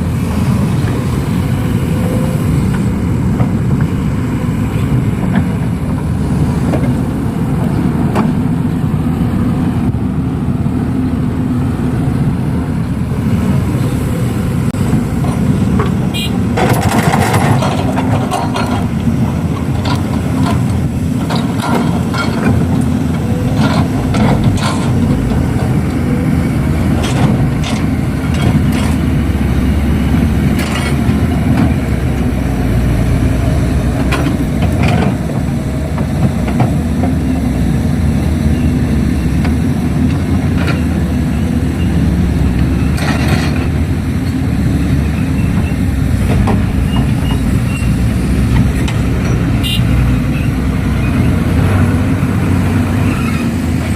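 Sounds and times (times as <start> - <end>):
excavator diesel engine: 0.0 - 53.9.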